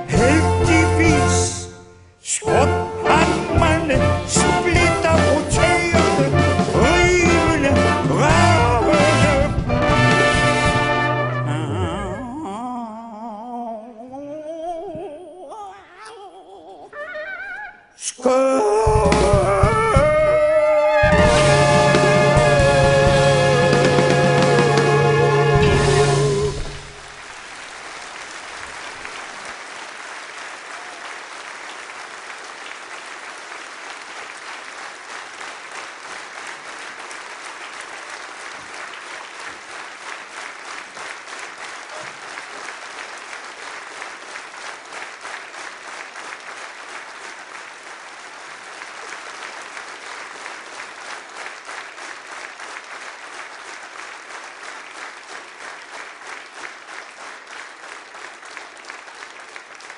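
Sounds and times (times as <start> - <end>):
audience applauding: 0.0 - 59.9.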